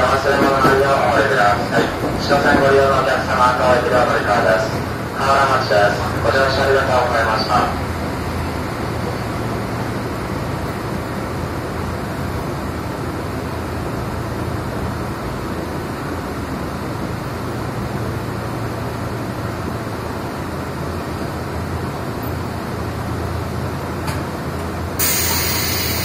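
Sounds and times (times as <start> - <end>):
electric train hum and hiss: 0.0 - 26.0.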